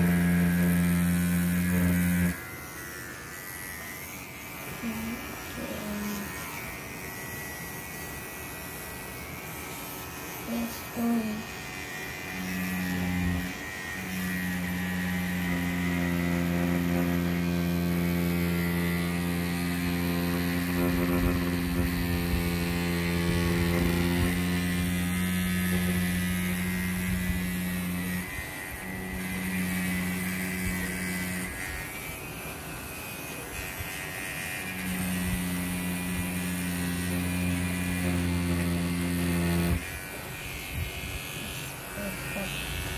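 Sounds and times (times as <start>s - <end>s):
tattoo machine buzzing: 0.0s - 42.9s.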